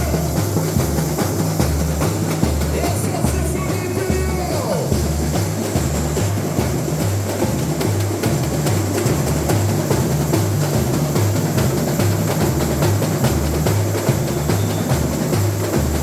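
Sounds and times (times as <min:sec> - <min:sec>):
snare and percussion: 0:00.0 - 0:16.0
surdo bass drums: 0:00.0 - 0:16.0.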